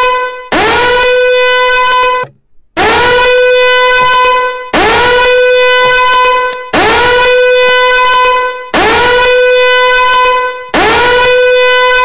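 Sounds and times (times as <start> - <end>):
horn-like timer alarm blasts: 0.0 - 12.0.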